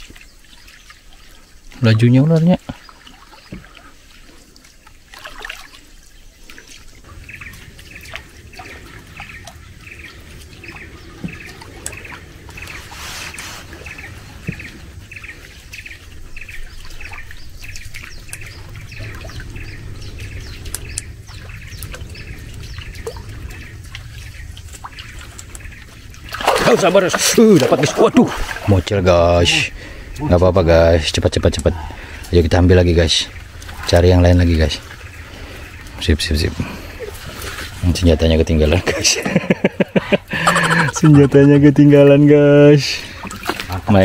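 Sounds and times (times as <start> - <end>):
water lapping around boat: 0.0 - 44.0
bird chirping: 5.6 - 44.0.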